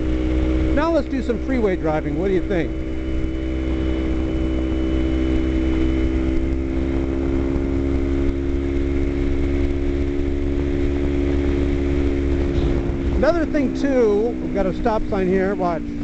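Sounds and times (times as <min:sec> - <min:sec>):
motorcycle engine cruising: 0:00.0 - 0:16.0
wind and road rush: 0:00.0 - 0:16.0.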